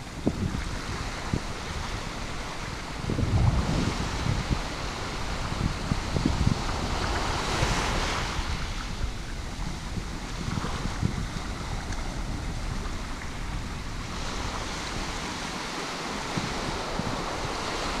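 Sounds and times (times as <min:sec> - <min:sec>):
small waves washing onto sand: 0:00.0 - 0:18.0
wind buffeting microphone: 0:00.0 - 0:18.0.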